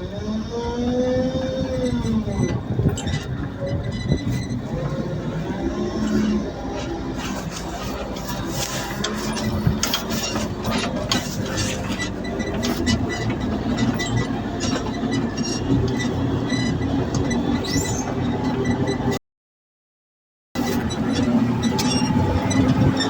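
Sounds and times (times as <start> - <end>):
engine hum: 0.0 - 19.2, 20.6 - 23.0
vehicle rattling and clatter: 0.0 - 19.2, 20.6 - 23.0.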